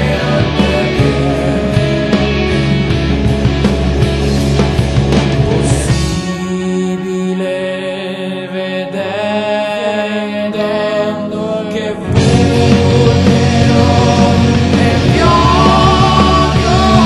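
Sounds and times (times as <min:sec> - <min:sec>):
rock band music: 0:00.0 - 0:17.0.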